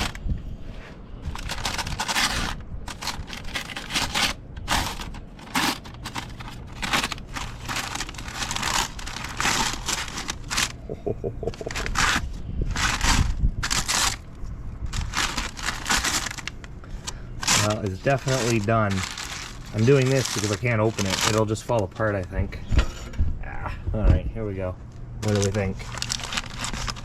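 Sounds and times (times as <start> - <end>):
parchment paper crinkling: 0.0 - 0.2, 1.2 - 10.8, 11.6 - 22.5, 25.2 - 27.0.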